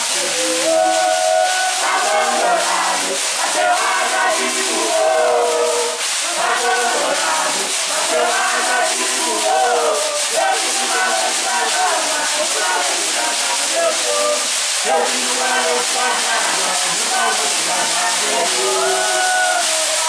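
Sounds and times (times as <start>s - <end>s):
group singing a chant: 0.0s - 20.0s
rattles shaking: 0.0s - 20.0s.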